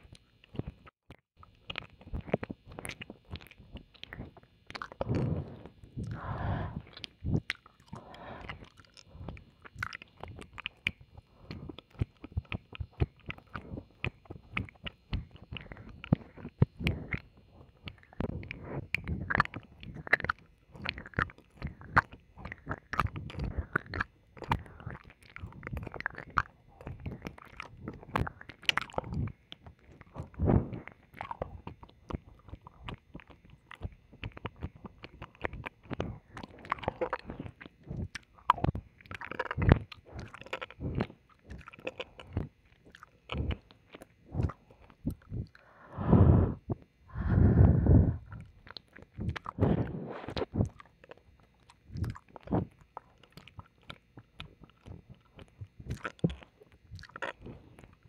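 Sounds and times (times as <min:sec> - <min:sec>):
tongue clicks: 0:00.0 - 0:45.8, 0:48.1 - 0:58.0
wet mouth licking: 0:01.5 - 0:58.0.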